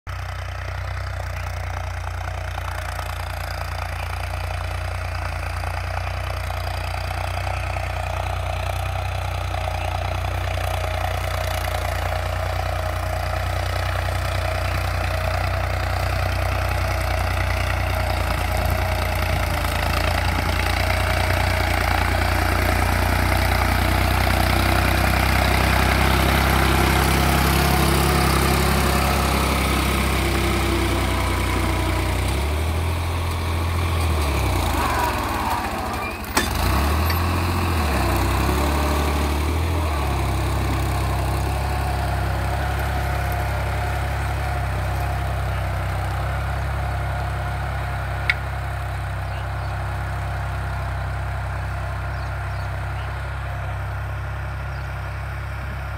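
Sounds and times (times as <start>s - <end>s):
diesel tractor engine running: 0.1s - 55.9s.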